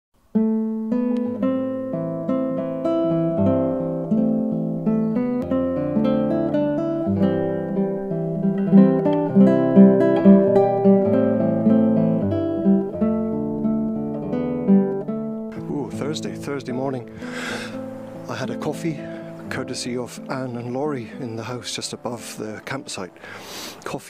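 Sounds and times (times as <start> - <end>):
acoustic guitar music: 0.2 - 24.0.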